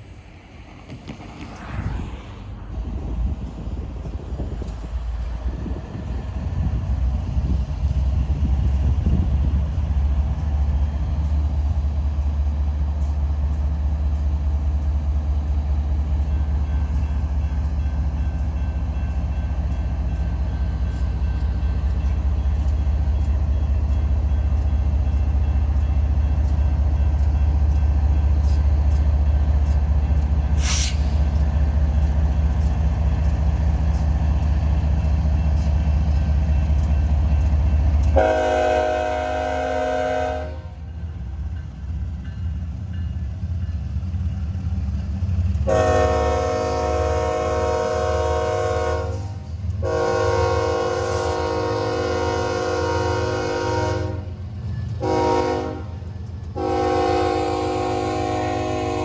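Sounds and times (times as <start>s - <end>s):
diesel locomotive rumble: 0.0s - 59.0s
train wheels clicking on track: 0.0s - 59.0s.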